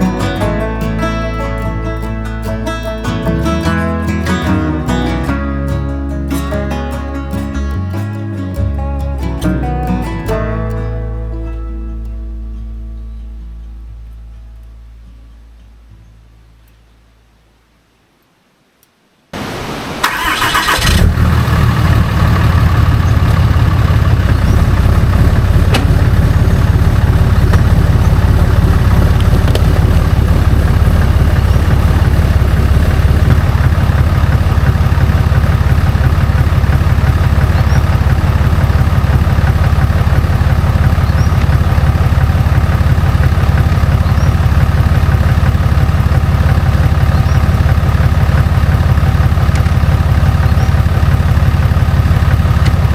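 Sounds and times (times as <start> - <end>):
diesel engine idling: 0.0 - 15.0, 19.4 - 52.9.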